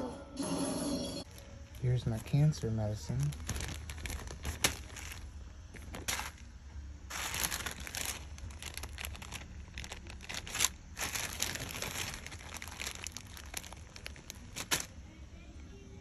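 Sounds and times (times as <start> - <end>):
plastic bag crinkling: 1.3 - 15.0.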